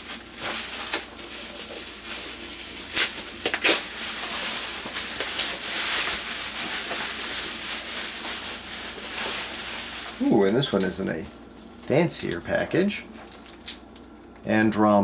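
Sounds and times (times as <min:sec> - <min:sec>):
packaging rustling and crinkling: 0:00.0 - 0:14.2.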